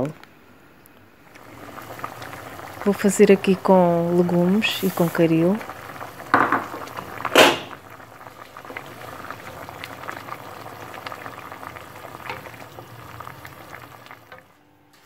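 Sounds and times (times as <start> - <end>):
curry bubbling with small pops: 1.2 - 14.5.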